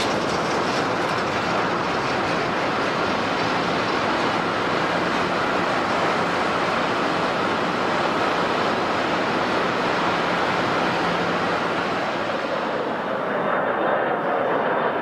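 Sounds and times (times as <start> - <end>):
distant jet engines rushing: 0.0 - 15.0.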